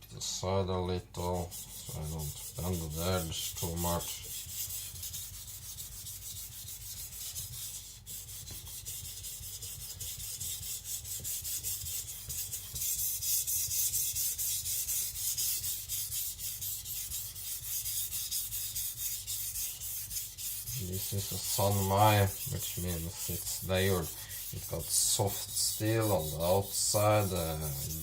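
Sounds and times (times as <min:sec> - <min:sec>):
knife scraping on wet stone: 0:01.5 - 0:28.0.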